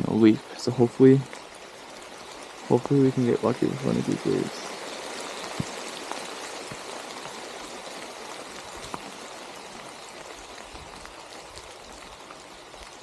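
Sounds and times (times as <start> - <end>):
rain falling: 0.0 - 13.0
running water rushing: 0.0 - 13.0.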